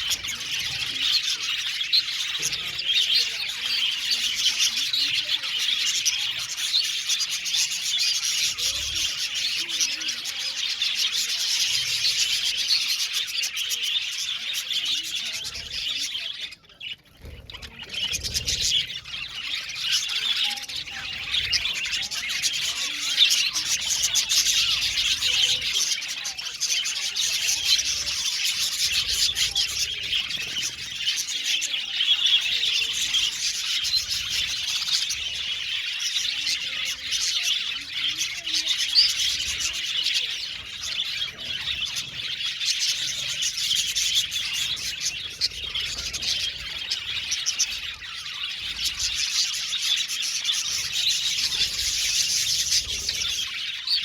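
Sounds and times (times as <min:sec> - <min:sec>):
budgies chattering and chirping: 0:00.0 - 0:54.0.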